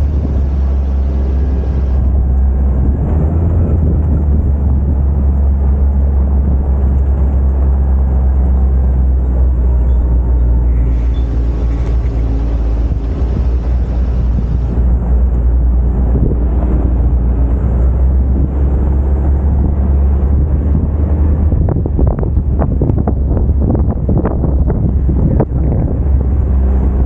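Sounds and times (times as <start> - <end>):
vehicle engine running: 0.0 - 27.0
wind buffeting microphone: 0.0 - 27.0.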